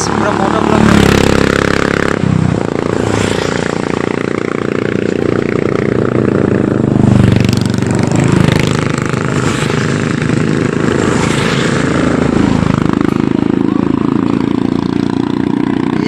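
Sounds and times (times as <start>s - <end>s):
motorcycle engines passing: 0.0s - 16.0s
motorcycle engines revving: 0.0s - 16.0s.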